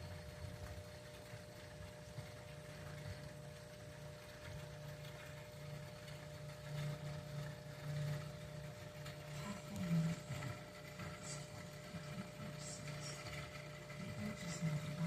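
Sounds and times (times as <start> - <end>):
aquarium filter pump humming: 0.0 - 15.0.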